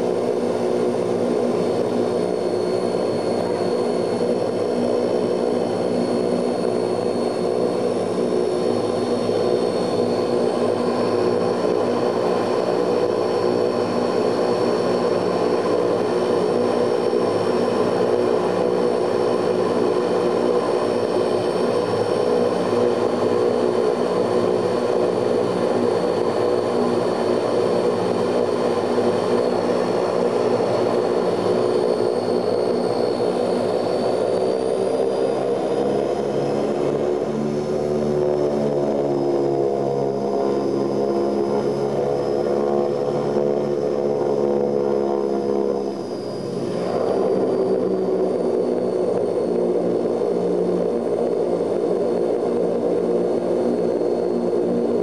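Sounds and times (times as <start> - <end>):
propeller drone: 0.0 - 55.0.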